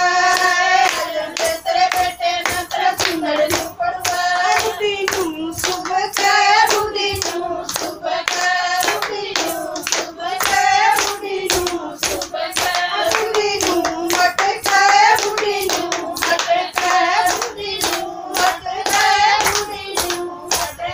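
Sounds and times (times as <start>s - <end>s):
rhythmic handclapping: 0.0s - 20.9s
women singing folk song: 0.0s - 20.9s.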